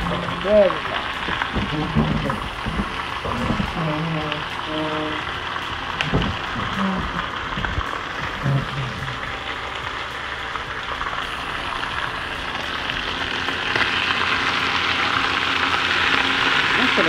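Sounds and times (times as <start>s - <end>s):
chicken sizzling in a skillet: 0.0s - 17.0s.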